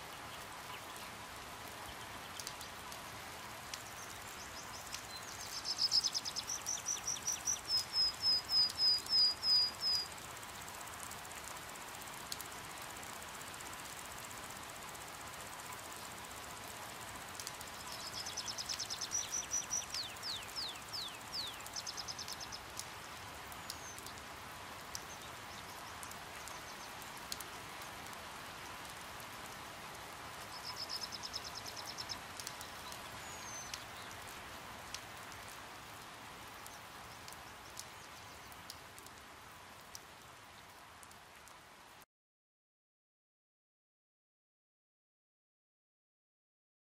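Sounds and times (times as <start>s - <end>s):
rain hiss: 0.0s - 42.0s.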